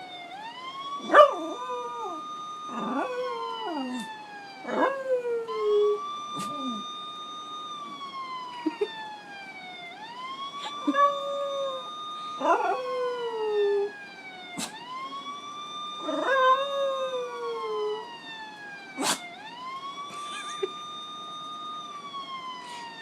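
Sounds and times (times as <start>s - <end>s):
police siren from phone speaker: 0.0s - 23.0s.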